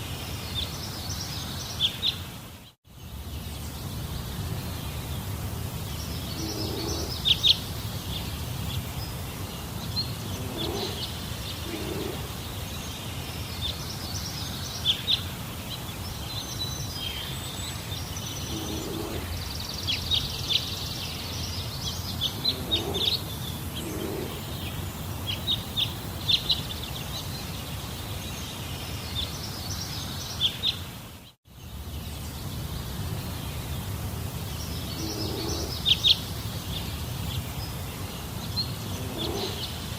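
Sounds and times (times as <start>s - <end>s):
birds chirping: 0.5s - 39.9s.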